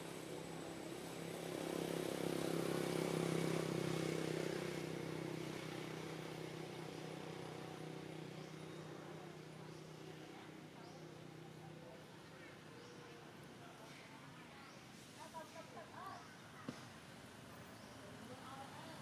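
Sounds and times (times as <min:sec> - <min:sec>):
motor engine passing by: 0:00.0 - 0:19.0.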